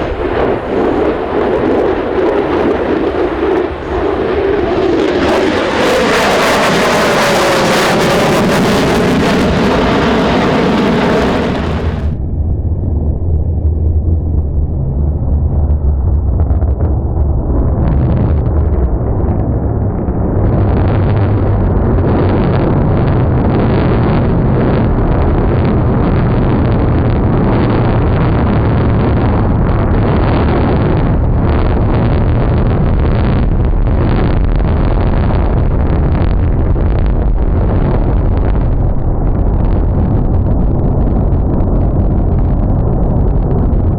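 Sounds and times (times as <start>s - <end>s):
deep jet engine rumble: 0.0s - 43.9s
jet engine roar: 0.0s - 43.9s.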